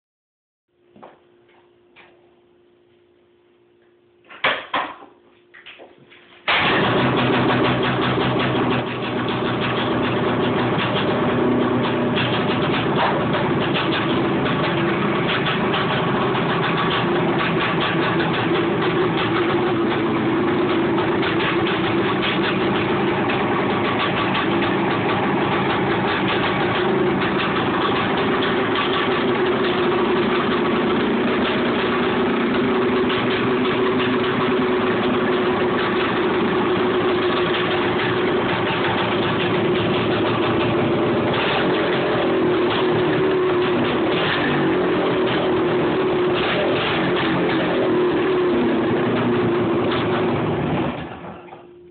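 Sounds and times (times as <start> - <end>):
two-stroke engine running: 6.5 - 51.5
recoil starter pulls: 6.5 - 51.6.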